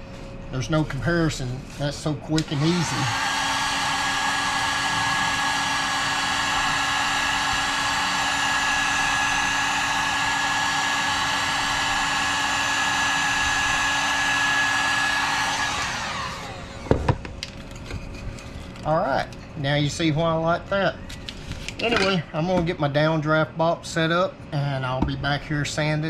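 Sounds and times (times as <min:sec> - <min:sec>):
heat gun fan whining: 0:00.7 - 0:23.3.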